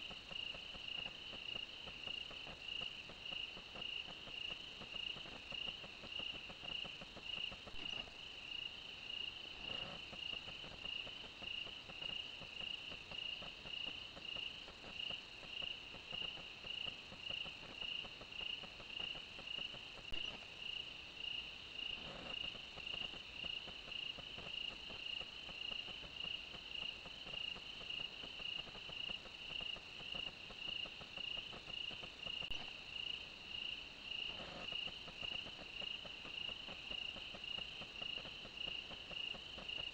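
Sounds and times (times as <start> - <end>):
crickets chirping: 0.0 - 39.9
faint insect trill: 0.0 - 39.9.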